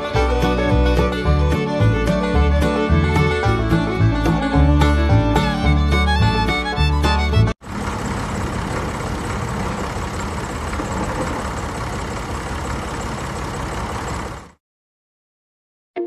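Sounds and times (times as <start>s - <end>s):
tractor engine idling: 0.0s - 14.6s.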